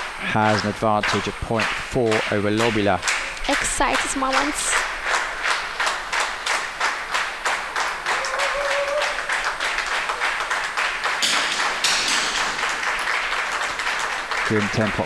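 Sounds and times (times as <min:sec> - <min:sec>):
spectators clapping in rhythm: 0:00.0 - 0:15.0.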